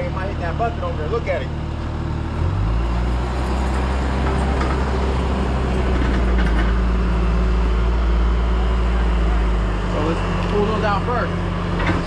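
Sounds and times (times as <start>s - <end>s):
machine engine drone: 1.7s - 12.0s.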